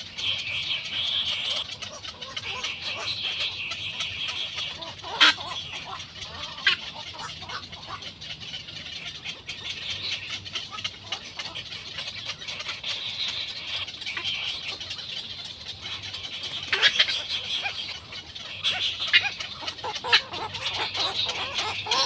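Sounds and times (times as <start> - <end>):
bird chicks clucking begging calls: 0.0 - 22.0.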